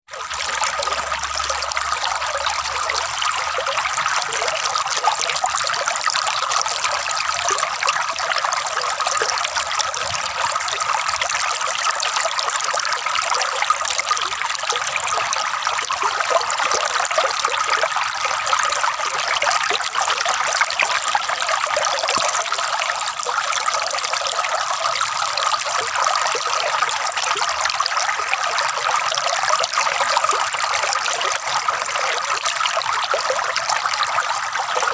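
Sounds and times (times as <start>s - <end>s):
water trickling and gurgling: 0.1s - 34.9s.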